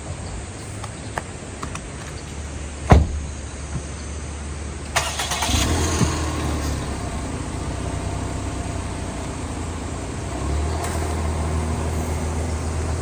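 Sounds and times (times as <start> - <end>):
engine idling: 0.6 - 13.0.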